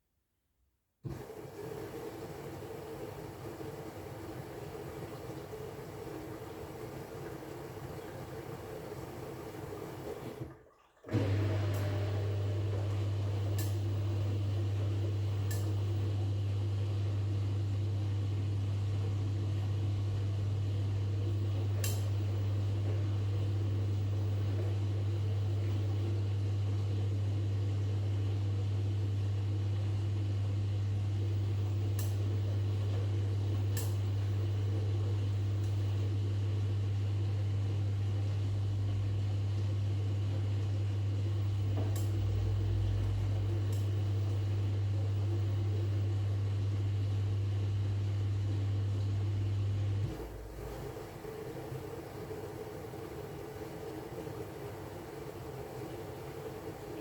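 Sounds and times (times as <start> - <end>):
washing machine humming: 1.0 - 57.0.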